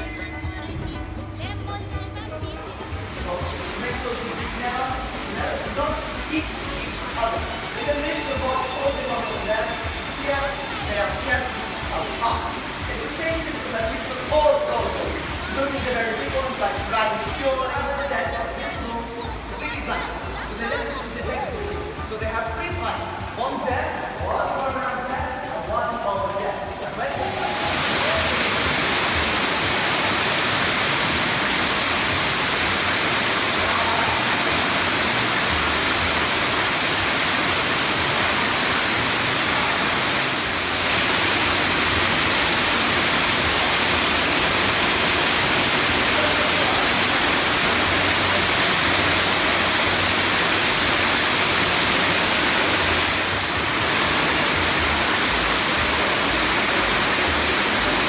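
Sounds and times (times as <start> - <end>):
flowing water rushing: 0.0 - 1.5, 2.4 - 58.0.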